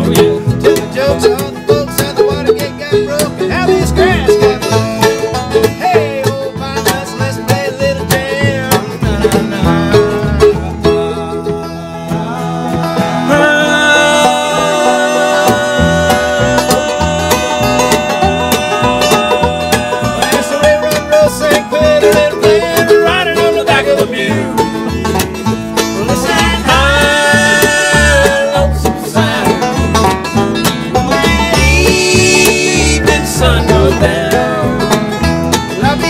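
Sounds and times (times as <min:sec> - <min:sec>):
man singing: 0:00.0 - 0:30.2, 0:30.9 - 0:35.1, 0:35.7 - 0:36.0
bluegrass band playing: 0:00.0 - 0:36.0.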